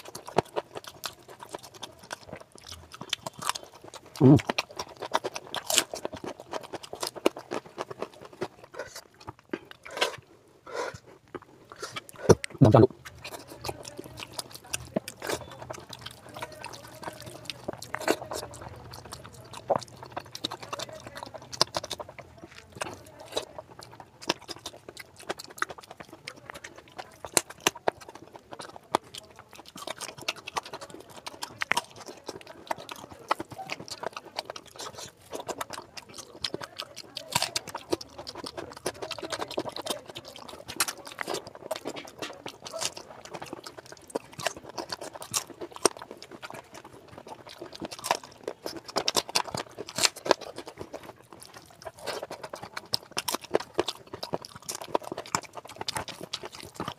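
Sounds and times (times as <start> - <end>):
chewing: 0.0 - 56.9.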